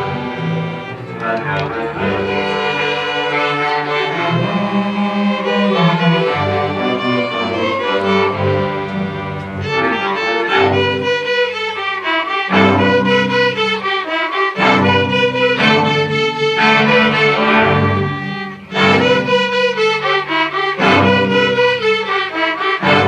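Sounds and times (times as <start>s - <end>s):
string orchestra playing: 0.0s - 23.0s.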